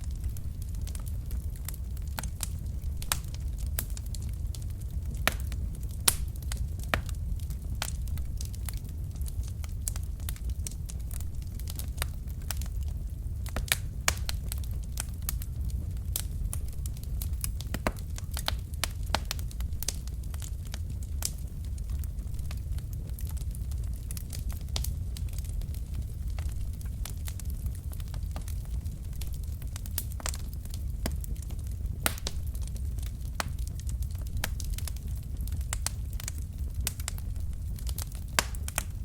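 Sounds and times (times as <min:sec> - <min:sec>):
logs crackling and popping: 0:00.0 - 0:39.0
low rumble of flames: 0:00.0 - 0:39.0.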